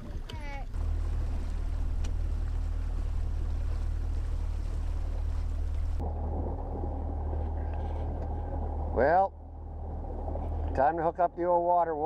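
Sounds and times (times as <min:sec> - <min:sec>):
outboard motor humming: 0:00.0 - 0:12.0
water rushing: 0:00.0 - 0:12.0
wind: 0:00.0 - 0:12.0.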